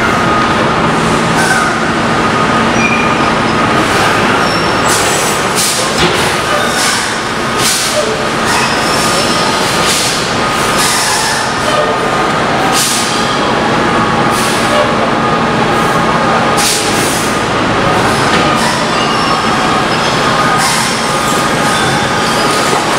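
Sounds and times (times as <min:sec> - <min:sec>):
garbage truck engine and hydraulics: 0:00.0 - 0:22.9.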